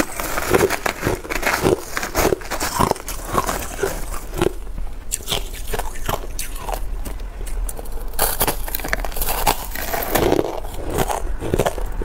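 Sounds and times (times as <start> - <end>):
chewing crushed ice: 0.0 - 12.0.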